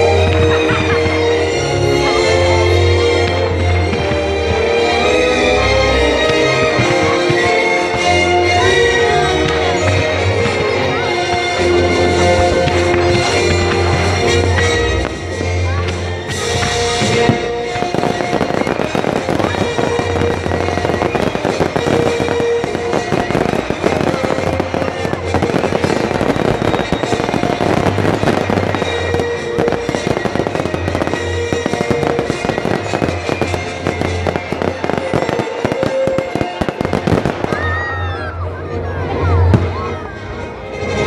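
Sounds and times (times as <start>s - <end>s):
fireworks crackling and banging: 0.0s - 38.4s
music playing: 0.0s - 41.0s.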